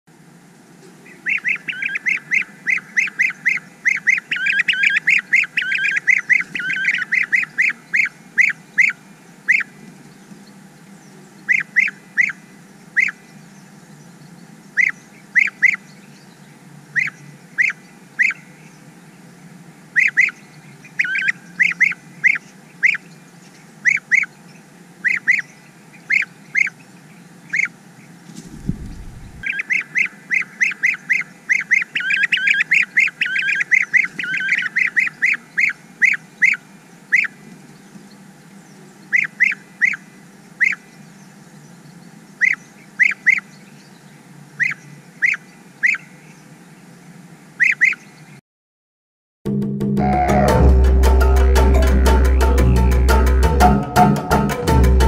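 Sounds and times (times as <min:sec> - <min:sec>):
birds calling with rolling notes: 0:00.8 - 0:48.4, 0:50.0 - 0:55.0.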